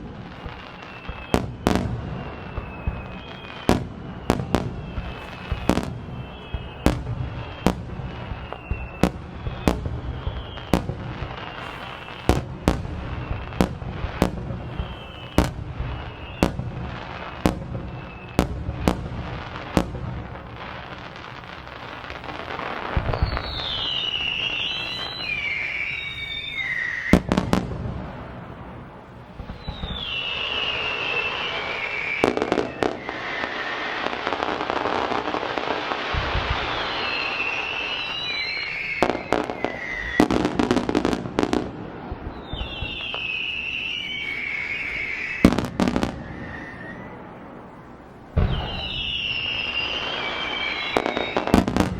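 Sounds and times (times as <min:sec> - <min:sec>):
falling firework whistles: 0:00.0 - 0:51.9
fireworks bangs: 0:00.0 - 0:51.9.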